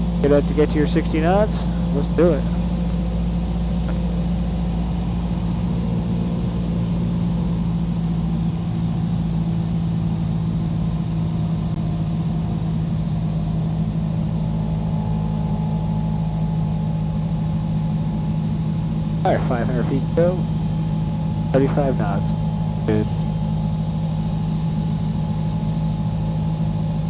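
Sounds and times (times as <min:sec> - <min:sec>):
airplane engine and propeller droning: 0:00.0 - 0:27.0.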